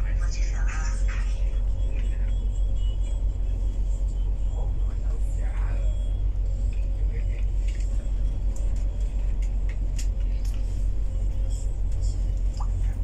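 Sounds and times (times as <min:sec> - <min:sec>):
bus engine and tyre rumble: 0:00.0 - 0:13.0.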